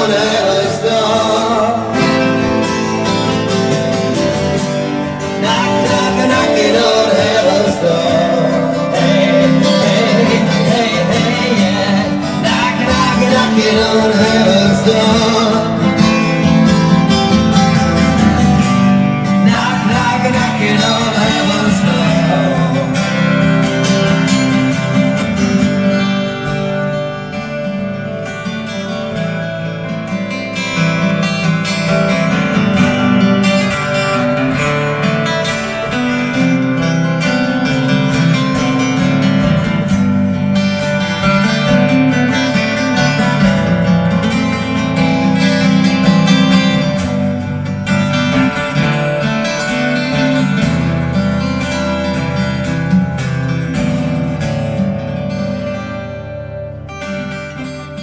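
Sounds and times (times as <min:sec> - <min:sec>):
acoustic guitars strumming: 0:00.0 - 0:58.0
picked guitar notes: 0:00.0 - 0:58.0.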